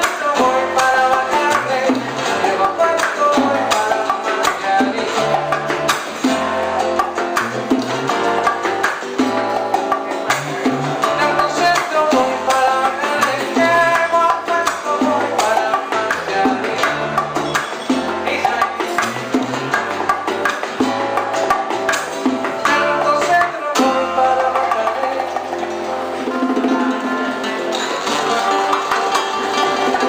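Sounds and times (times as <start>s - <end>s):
live band music with percussion: 0.0s - 30.0s.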